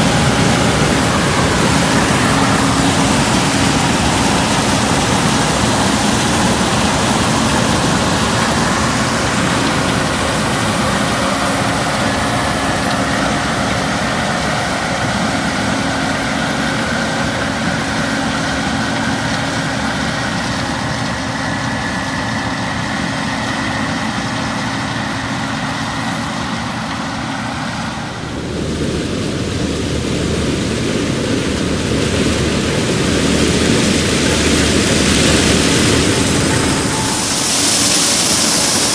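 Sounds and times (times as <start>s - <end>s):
combine harvester running: 0.0s - 38.9s
machinery whine: 0.0s - 38.9s.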